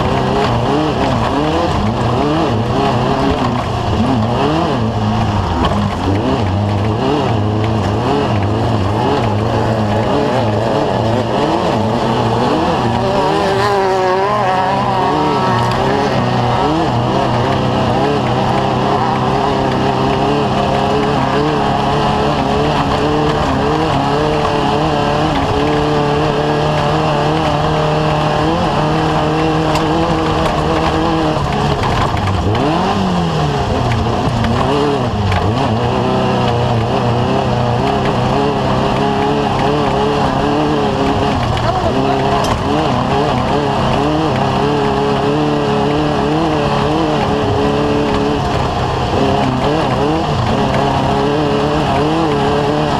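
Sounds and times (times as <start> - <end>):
race vehicle engine running hard: 0.0 - 52.9.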